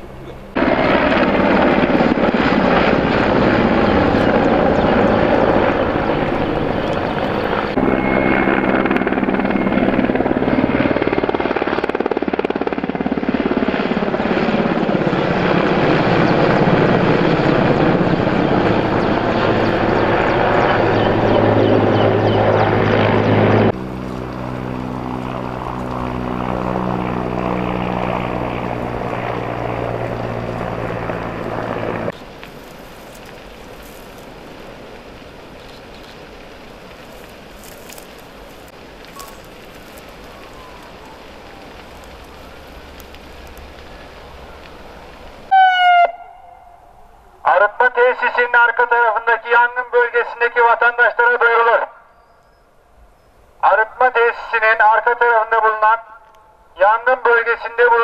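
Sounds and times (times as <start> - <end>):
helicopter flying close by: 0.0 - 52.2, 52.8 - 58.0.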